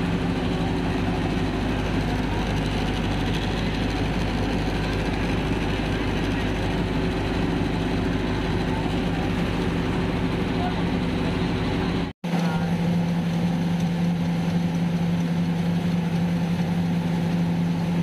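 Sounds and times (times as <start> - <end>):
tractor engine driving rice mill: 0.0 - 18.0.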